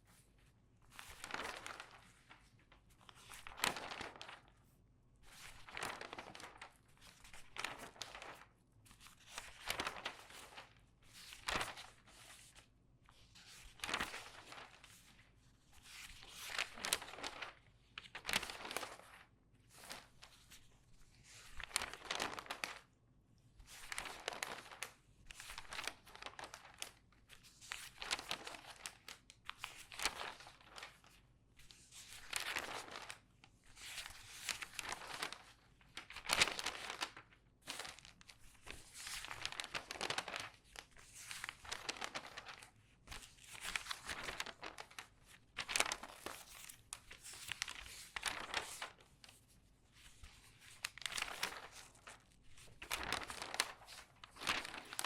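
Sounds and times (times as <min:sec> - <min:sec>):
newspaper pages turning: 0:00.1 - 0:04.6, 0:05.2 - 0:22.9, 0:23.6 - 0:55.0.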